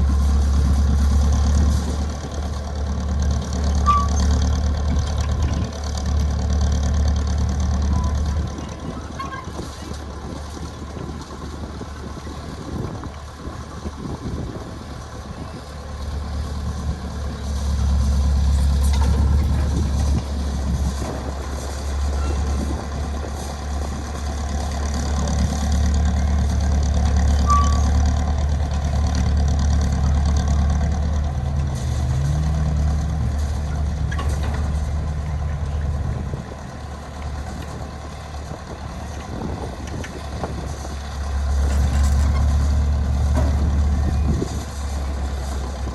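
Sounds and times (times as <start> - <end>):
heavy vehicle engine rumbling: 0.0 - 45.9.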